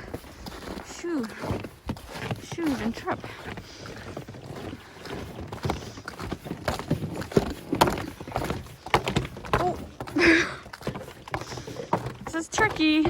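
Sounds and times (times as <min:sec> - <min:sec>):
snowshoe footsteps crunching on ice: 0:00.0 - 0:13.0.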